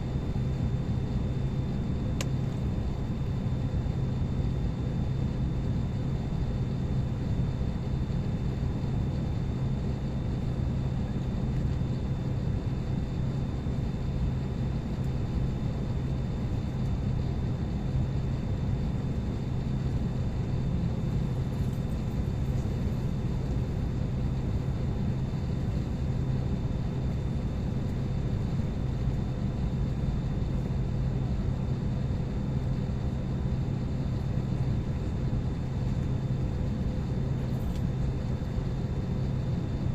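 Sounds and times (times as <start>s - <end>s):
air-conditioning airflow hiss: 0.0s - 39.9s
constant low hum: 0.0s - 39.9s.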